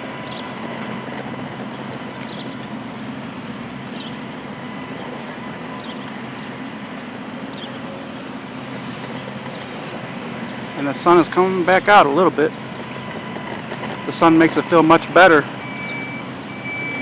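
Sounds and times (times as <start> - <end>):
low engine hum: 0.0 - 17.0
street and construction noise: 0.0 - 17.0.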